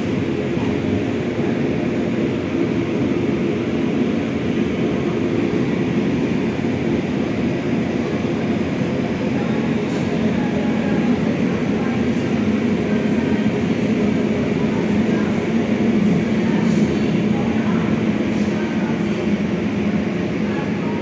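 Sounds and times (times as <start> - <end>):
jet engines at taxi power: 0.0 - 21.0.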